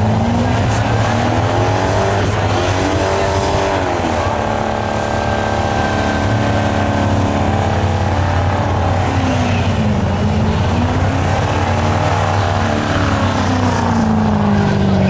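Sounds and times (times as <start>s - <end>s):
car engine at high revs: 0.0s - 15.0s
tyres spinning in a burnout: 0.0s - 15.0s.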